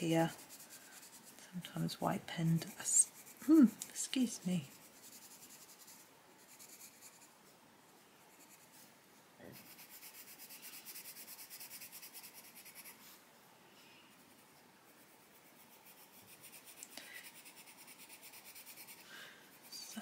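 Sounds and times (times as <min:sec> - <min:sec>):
pencil scratching on paper: 0:00.0 - 0:07.3, 0:08.2 - 0:08.8, 0:09.5 - 0:13.0, 0:14.2 - 0:20.0.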